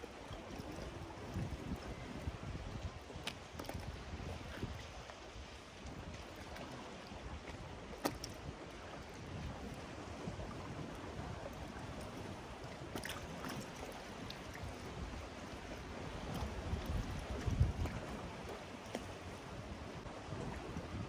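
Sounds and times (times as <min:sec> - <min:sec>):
sea water washing: 0:00.0 - 0:21.0
wind rumbling on microphone: 0:00.0 - 0:21.0.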